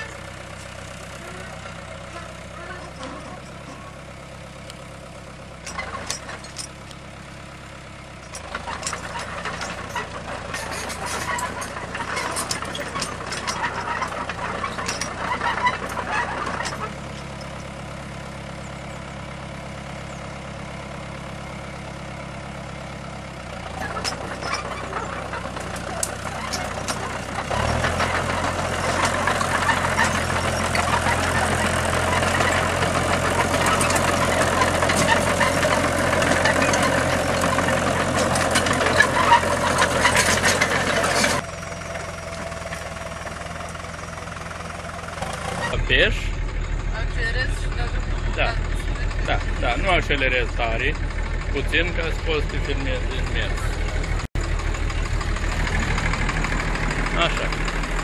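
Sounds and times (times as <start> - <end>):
tractor engines running: 0.0 - 58.0.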